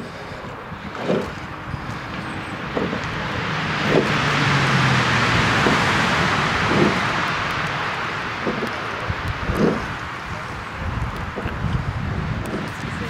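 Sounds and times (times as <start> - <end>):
low engine hum: 0.0 - 13.0
vehicle passing rushing noise: 0.0 - 13.0.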